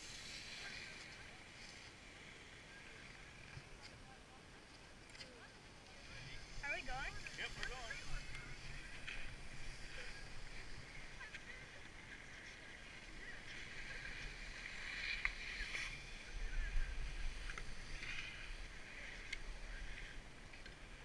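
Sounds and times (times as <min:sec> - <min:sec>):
skis scraping on snow: 0:00.0 - 0:03.9, 0:05.9 - 0:21.0.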